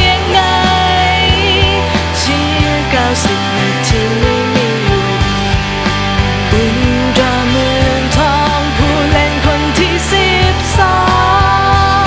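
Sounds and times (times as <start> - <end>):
drums: 0.0 - 12.0
steady bass line: 0.0 - 12.0.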